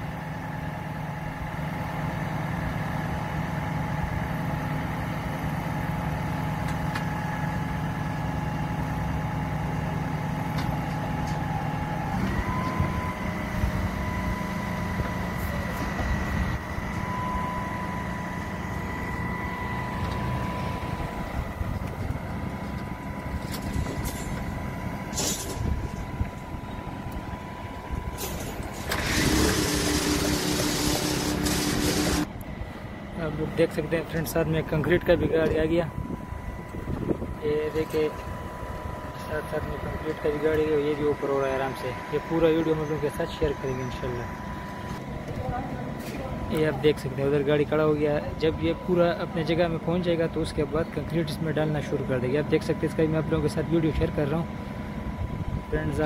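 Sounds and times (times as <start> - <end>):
concrete pump engine running: 0.0 - 56.0
higher whine: 3.1 - 51.9.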